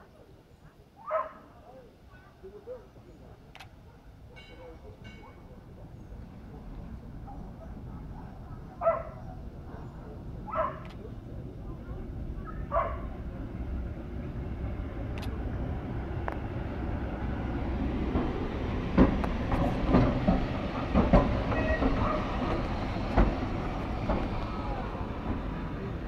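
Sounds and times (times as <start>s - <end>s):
tram wheels rumbling on rails: 2.4s - 26.0s
wheels clacking over track: 4.4s - 26.0s.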